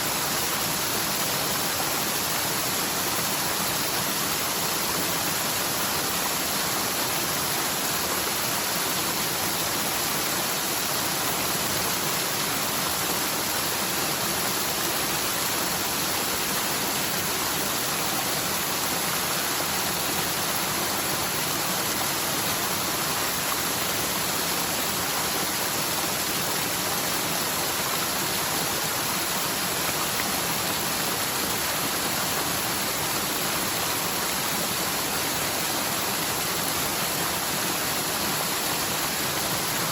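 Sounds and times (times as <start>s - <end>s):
fast stream water cascading: 0.0s - 39.9s.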